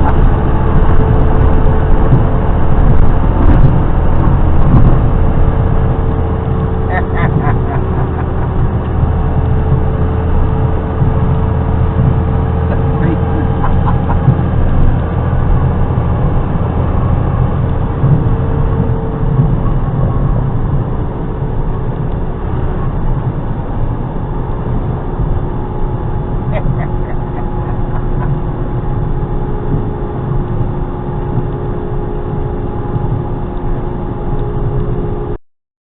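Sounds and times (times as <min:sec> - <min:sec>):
vehicle engine rumble: 0:00.0 - 0:35.4.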